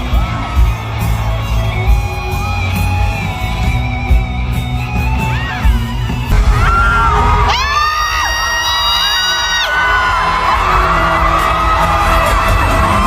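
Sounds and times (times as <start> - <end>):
band music with guitar and beat: 0.0 - 13.0
crowd screaming and whooping: 0.0 - 13.0.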